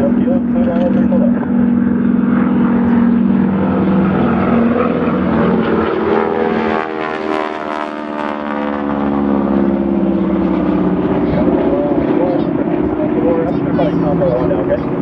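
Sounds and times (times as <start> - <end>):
helicopter hovering: 0.0 - 15.0
propeller plane passing by: 0.0 - 15.0.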